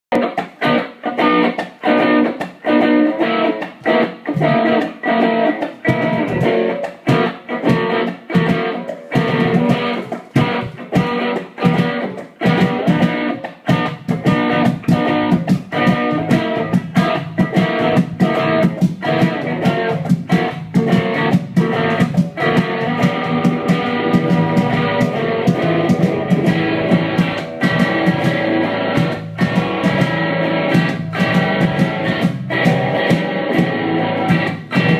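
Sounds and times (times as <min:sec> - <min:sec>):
electric guitars playing: 0:00.1 - 0:34.9.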